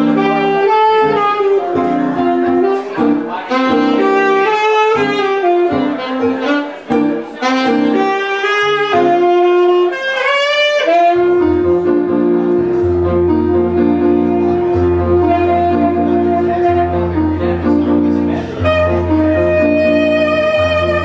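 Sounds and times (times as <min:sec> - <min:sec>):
instrumental music with bending notes: 0:00.0 - 0:21.0.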